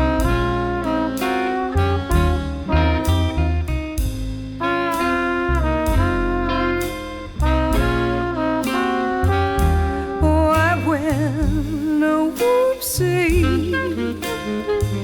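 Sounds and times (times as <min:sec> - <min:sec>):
saxophone with vibrato: 0:00.0 - 0:03.7, 0:04.6 - 0:15.0
drums: 0:00.0 - 0:15.0
walking bass: 0:00.0 - 0:15.0.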